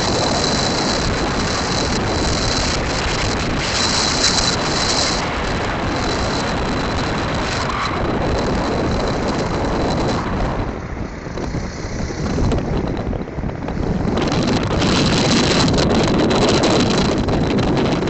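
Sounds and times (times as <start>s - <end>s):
motorcycle road noise: 0.0s - 18.0s
wind noise on microphone: 0.0s - 18.0s.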